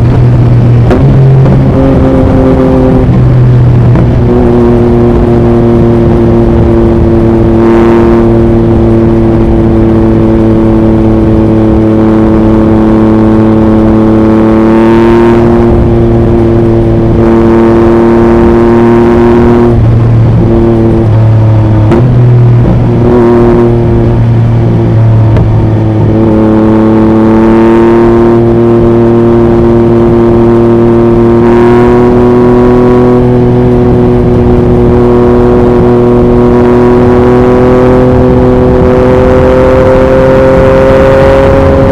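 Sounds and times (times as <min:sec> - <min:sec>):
motorcycle engine cruising: 0:00.0 - 0:41.9
wind noise on microphone: 0:00.0 - 0:41.9.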